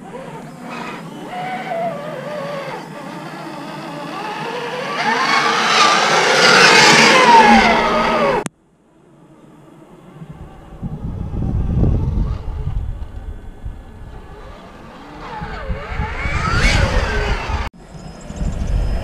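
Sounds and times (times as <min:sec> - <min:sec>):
electric motor and gears whining: 0:00.0 - 0:08.5, 0:09.7 - 0:19.0.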